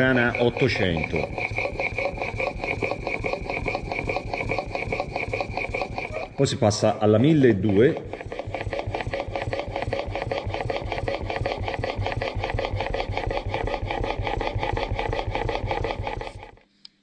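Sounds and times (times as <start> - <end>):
blade scraping on whetstone: 0.0 - 16.6.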